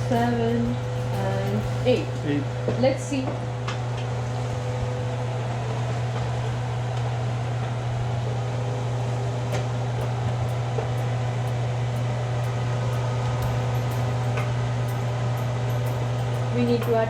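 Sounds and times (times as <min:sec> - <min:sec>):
kitchen fan humming: 0:00.0 - 0:17.0.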